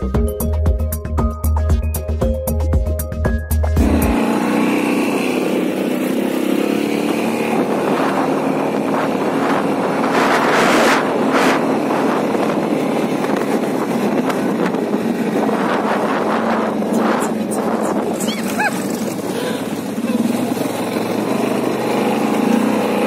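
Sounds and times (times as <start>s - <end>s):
wind and road noise: 2.1s - 23.0s
quad bike engine running: 3.6s - 23.0s.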